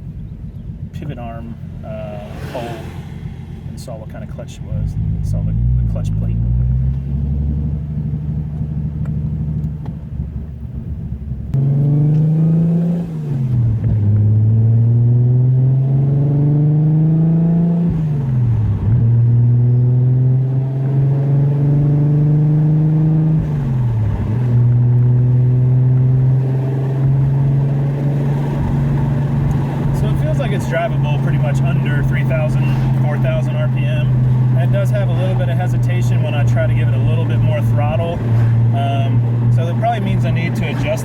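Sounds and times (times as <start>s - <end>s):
car engine revving through gears: 1.5s - 10.0s, 11.5s - 41.0s.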